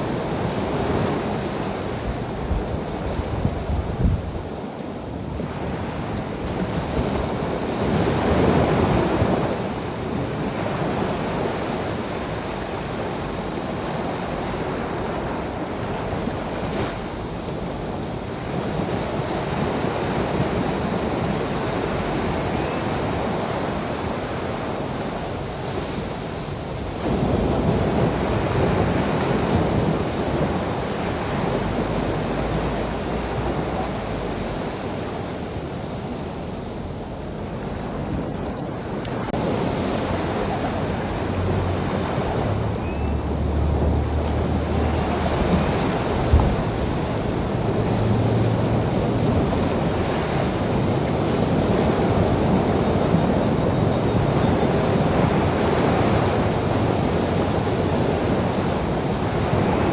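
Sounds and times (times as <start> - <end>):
sea waves breaking on shore: 0.0 - 59.9
wind noise on microphone: 0.0 - 59.9.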